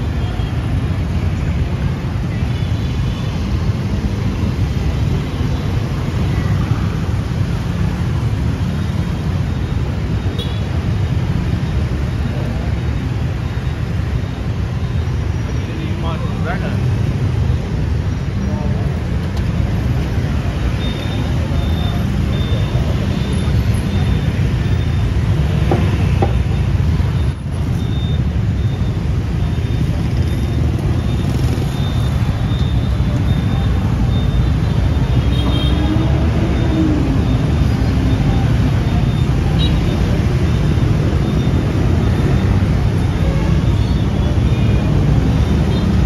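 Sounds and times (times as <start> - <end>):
street traffic hum: 0.0 - 46.0.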